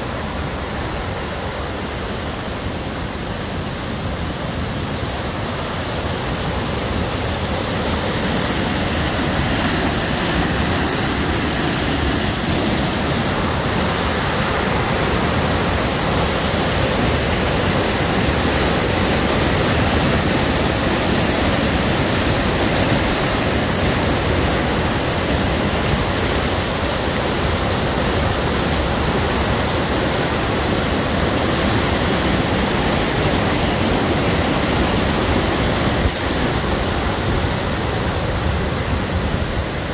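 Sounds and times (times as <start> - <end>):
river rushing over a dam: 0.0 - 39.9.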